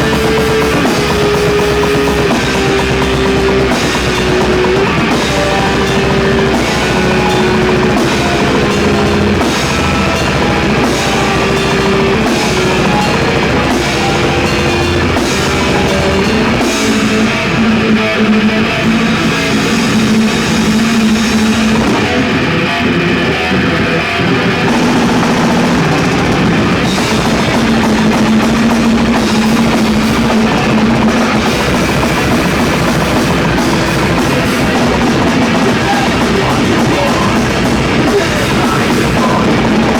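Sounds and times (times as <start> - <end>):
heavy metal band playing: 0.0 - 39.9.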